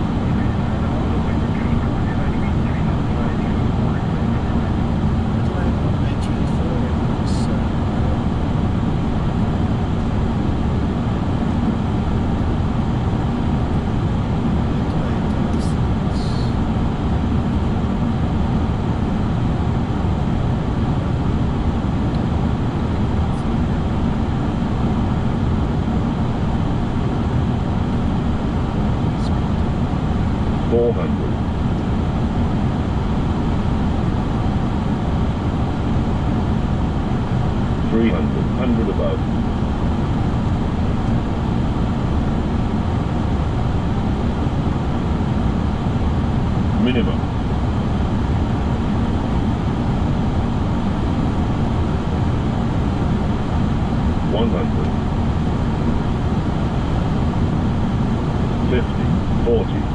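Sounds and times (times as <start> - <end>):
rushing air and aircraft engines: 0.0 - 59.9.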